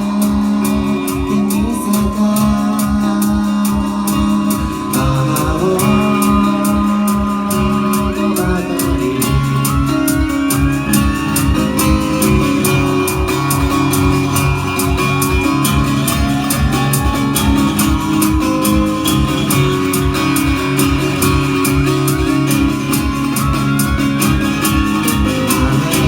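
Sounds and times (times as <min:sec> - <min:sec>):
electric guitar bending notes: 0:00.0 - 0:26.0
steady drum beat: 0:00.0 - 0:26.0.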